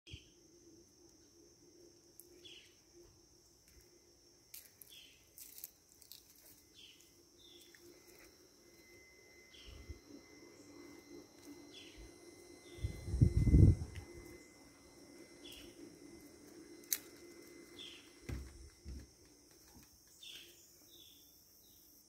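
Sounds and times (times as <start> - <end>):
high insect drone: 0.1 - 22.0.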